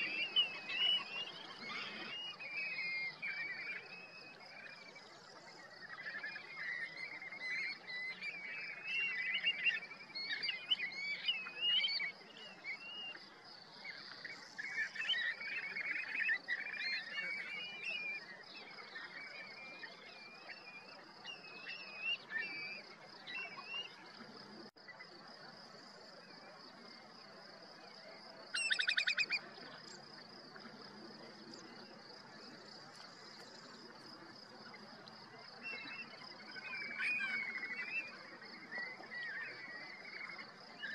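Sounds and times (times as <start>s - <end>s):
shorebirds whistling and twittering: 0.0s - 24.7s, 28.5s - 30.0s, 31.0s - 40.9s.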